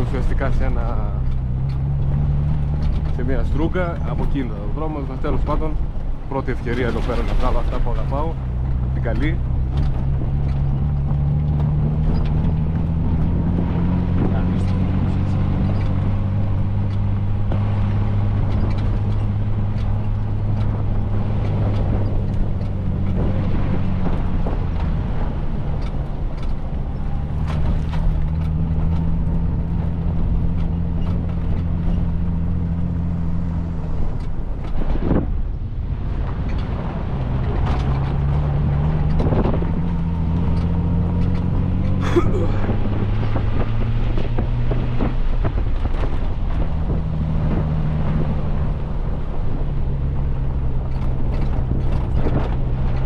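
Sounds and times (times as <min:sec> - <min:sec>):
car engine humming: 0:00.0 - 0:53.0
small knocks and rattles: 0:00.2 - 0:42.0, 0:42.7 - 0:53.0.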